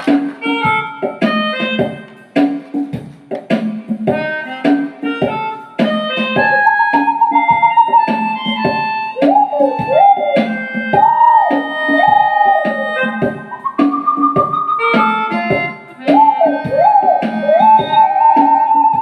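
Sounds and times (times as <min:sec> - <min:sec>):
steady drum beat: 0:00.0 - 0:19.0
melodica melody: 0:00.4 - 0:02.4, 0:04.1 - 0:19.0.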